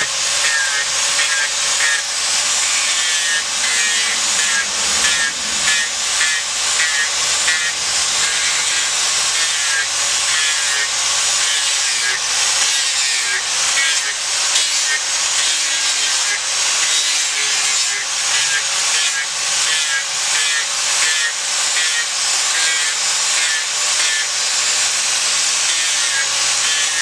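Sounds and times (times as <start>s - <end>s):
angle grinder grinding wood: 0.0s - 27.0s.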